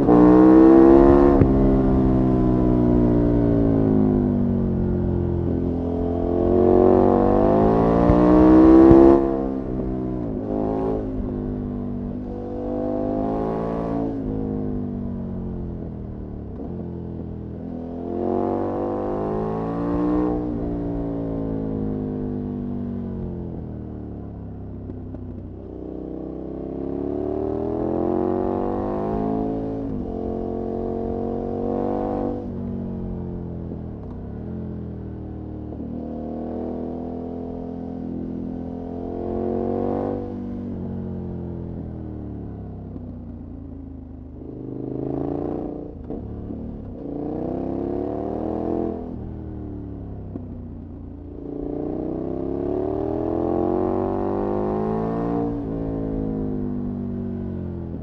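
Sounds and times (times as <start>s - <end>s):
motorcycle engine revving: 0.0s - 16.8s, 24.9s - 35.1s, 35.7s - 58.0s.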